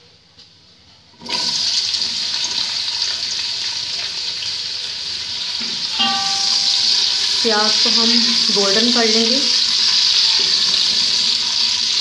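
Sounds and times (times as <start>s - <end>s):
onions sizzling in hot oil: 1.2s - 12.0s.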